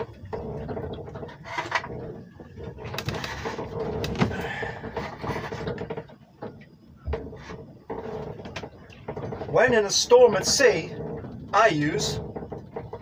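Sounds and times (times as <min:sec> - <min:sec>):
boat cabin creaking: 0:00.0 - 0:13.0.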